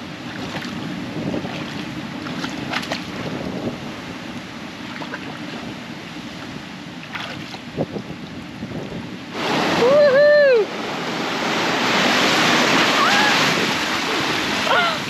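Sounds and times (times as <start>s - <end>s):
water splashes: 0.0s - 3.7s, 4.8s - 8.4s, 9.3s - 15.0s
wind buffeting microphone: 0.0s - 15.0s
ocean surge into rock pool: 0.1s - 15.0s.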